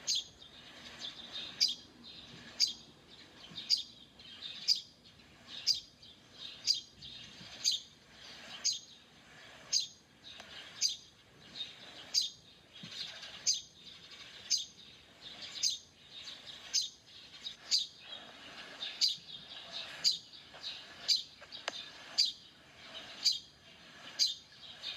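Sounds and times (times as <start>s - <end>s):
soft bird chirping: 0.0s - 24.9s.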